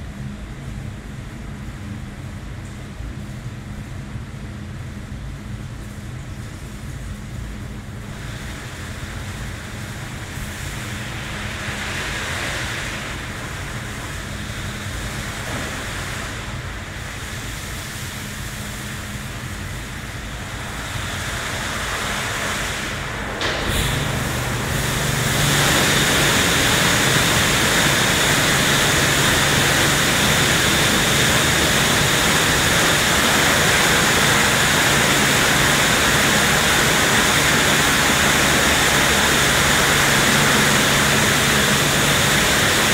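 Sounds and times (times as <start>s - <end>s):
car wash machine hum: 0.0s - 42.9s
water spray: 8.1s - 42.9s.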